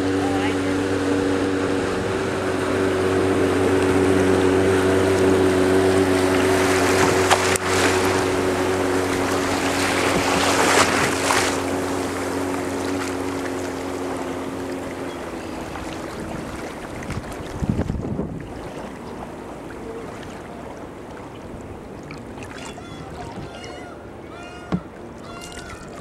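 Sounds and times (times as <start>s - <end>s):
motorboat engine humming: 0.0s - 26.0s
water and wind hiss: 0.0s - 26.0s.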